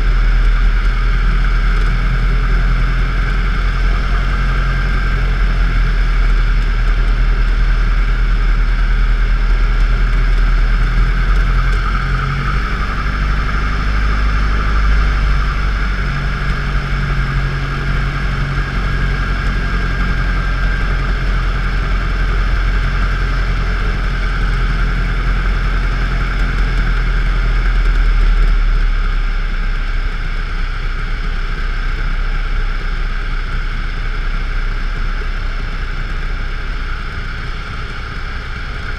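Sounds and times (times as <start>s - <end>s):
propeller plane engine: 0.0s - 38.9s.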